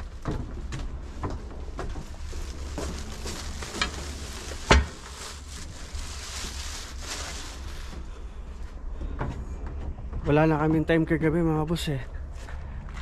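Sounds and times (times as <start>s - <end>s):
footsteps: 0.0s - 11.0s, 12.0s - 13.0s
steady hiss and low rumble: 0.0s - 13.0s.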